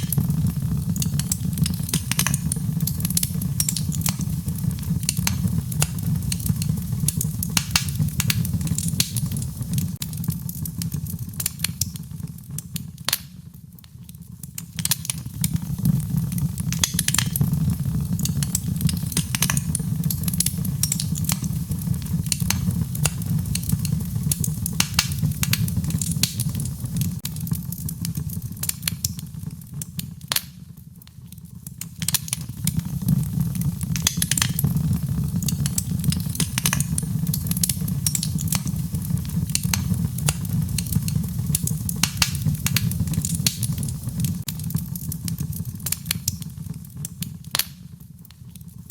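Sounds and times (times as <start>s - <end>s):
low rumble of flames: 0.0s - 48.9s
wood fire crackling and popping: 0.0s - 48.9s.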